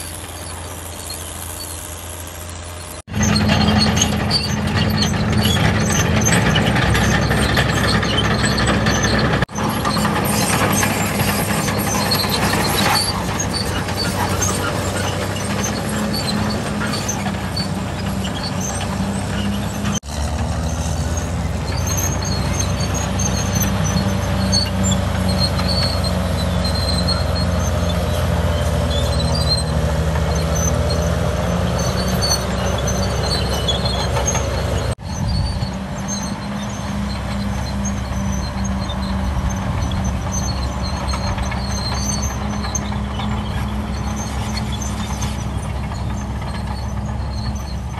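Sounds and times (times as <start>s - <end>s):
diesel engines of earthmoving machines: 0.0s - 47.9s
high-pitched squeaks: 0.0s - 47.9s.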